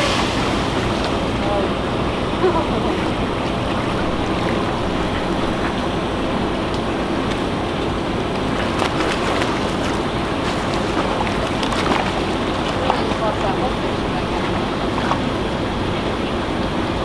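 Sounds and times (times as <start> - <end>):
water splashing and fizzing: 0.0 - 17.0.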